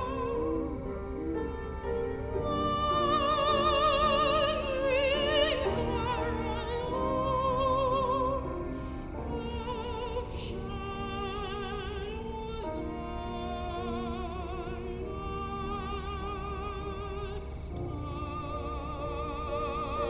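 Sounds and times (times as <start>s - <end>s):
piano accompaniment: 0.0s - 20.0s
soprano singing with vibrato: 0.0s - 20.0s.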